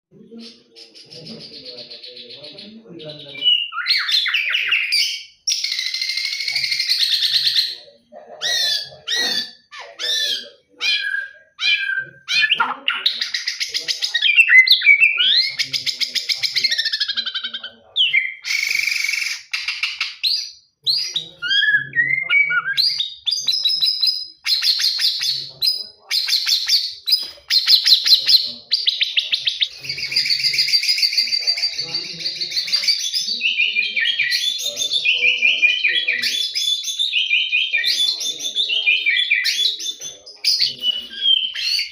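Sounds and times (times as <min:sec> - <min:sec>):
songbird whistling and trilling: 0:03.3 - 0:41.9.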